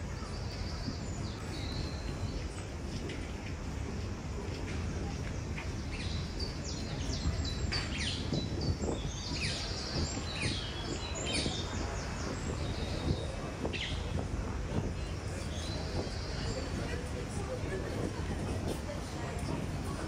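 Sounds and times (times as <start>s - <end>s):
small birds chirping: 0.0s - 3.2s, 4.5s - 17.9s.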